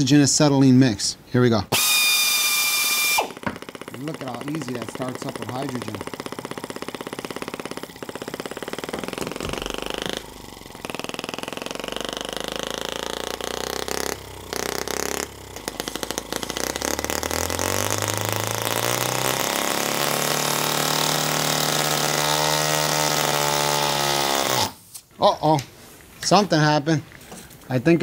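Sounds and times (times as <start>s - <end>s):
model engine buzzing: 1.8s - 24.8s.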